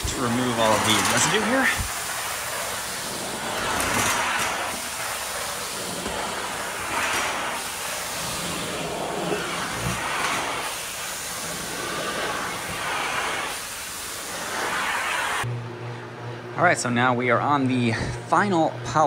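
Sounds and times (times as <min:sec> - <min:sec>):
extraction wand suction rush: 0:00.0 - 0:15.5.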